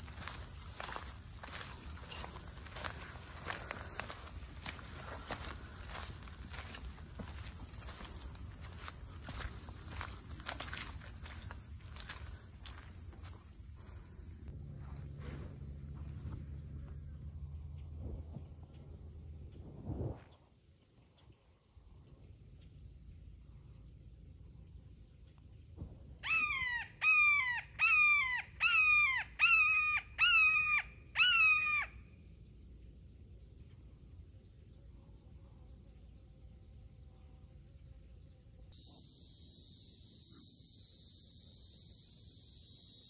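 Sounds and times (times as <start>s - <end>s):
high insect hum: 0.0s - 43.0s.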